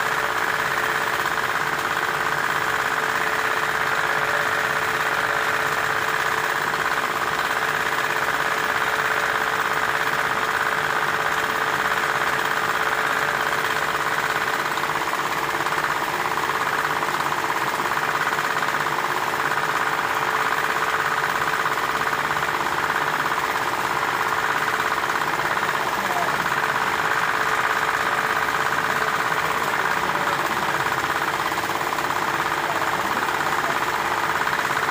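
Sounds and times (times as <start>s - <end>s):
machine motor humming and rattling: 0.0s - 34.9s.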